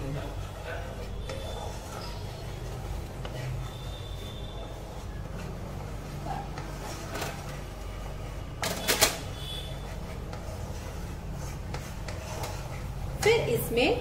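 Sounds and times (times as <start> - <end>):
wooden spatula scraping a pan: 0.0 - 14.0.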